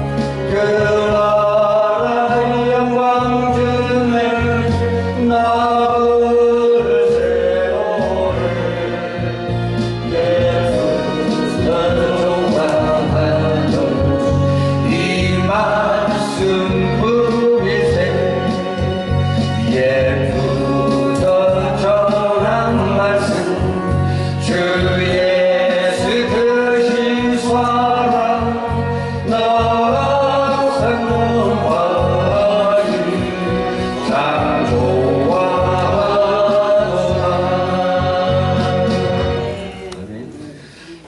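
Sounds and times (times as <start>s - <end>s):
voices singing a hymn: 0.0s - 40.4s
instrumental accompaniment: 0.0s - 41.0s.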